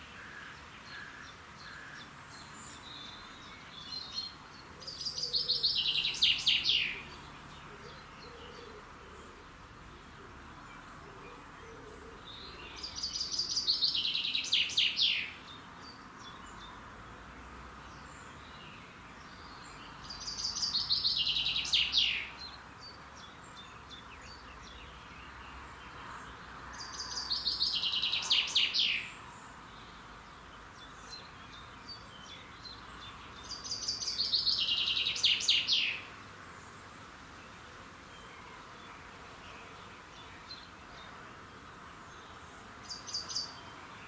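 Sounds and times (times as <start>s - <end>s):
songbird singing: 0.0s - 44.0s
steady background hiss: 0.0s - 44.0s.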